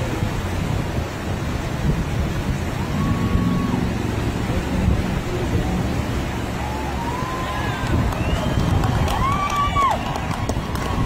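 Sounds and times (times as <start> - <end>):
rushing whitewater: 0.0 - 11.0
wind buffeting microphone: 0.0 - 11.0.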